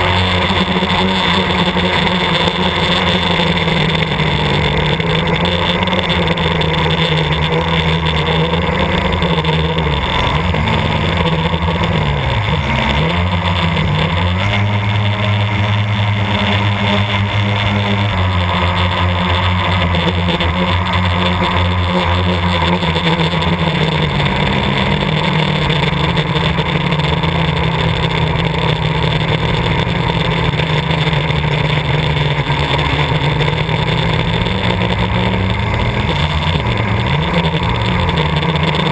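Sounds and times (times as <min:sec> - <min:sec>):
quadcopter propellers buzzing: 0:00.0 - 0:38.9.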